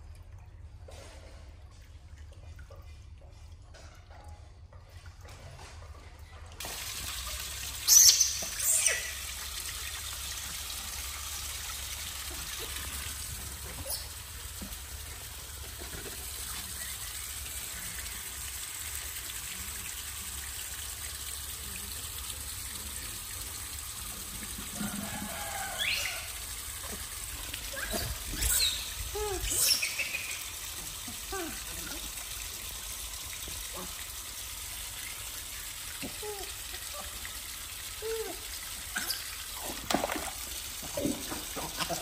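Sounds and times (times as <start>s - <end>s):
water trickling: 0.0s - 42.0s
water splashes: 6.6s - 42.0s.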